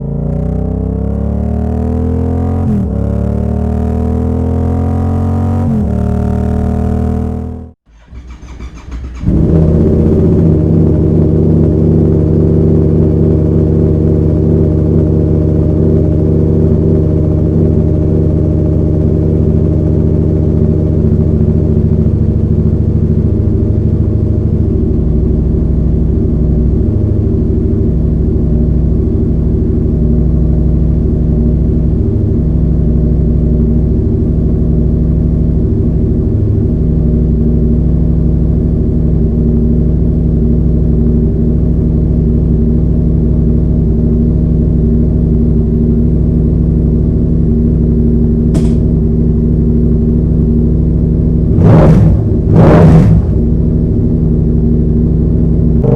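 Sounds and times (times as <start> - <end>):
engine idling with loud exhaust: 8.0 - 55.9.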